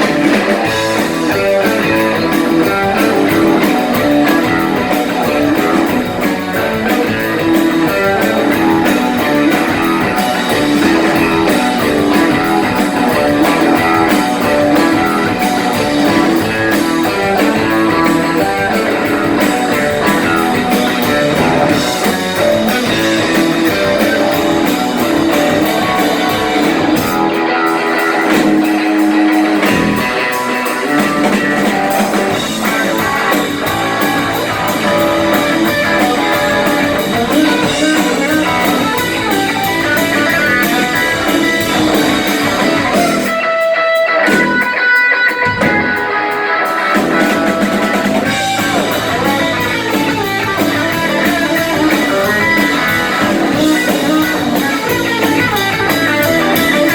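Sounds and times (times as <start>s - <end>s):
blues-rock band playing live: 0.0s - 56.9s
electric guitar: 0.0s - 56.9s.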